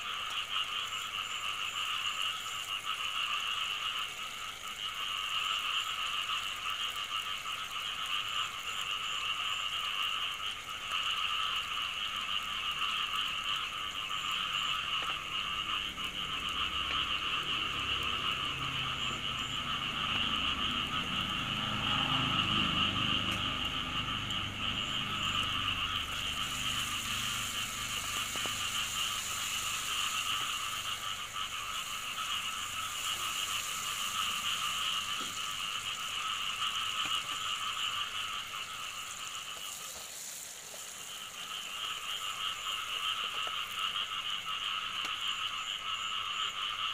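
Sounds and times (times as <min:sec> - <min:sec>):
frogs calling: 0:00.0 - 0:46.9.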